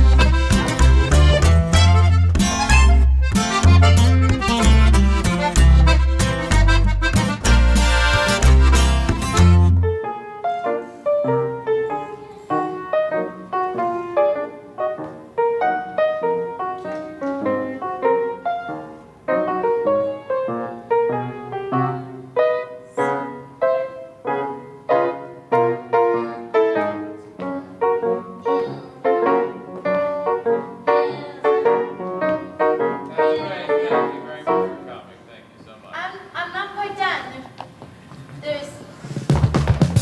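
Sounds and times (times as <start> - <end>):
piano melody: 0.0 - 35.2.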